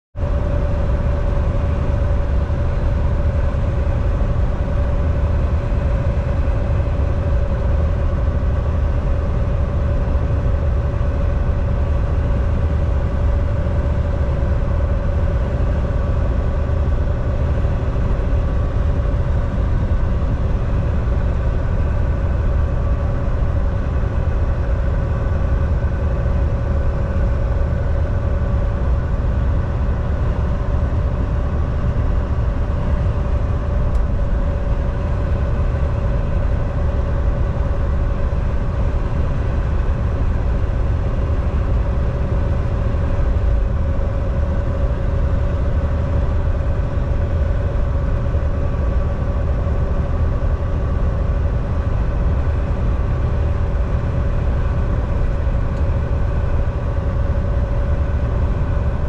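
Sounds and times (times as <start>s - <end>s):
mid-pitched whine: 0.2s - 59.0s.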